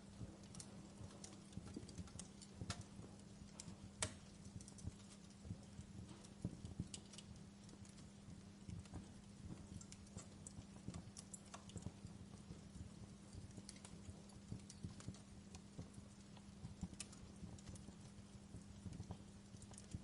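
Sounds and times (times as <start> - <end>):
faint low hum: 0.0 - 20.0
wood fire crackling: 0.0 - 20.0.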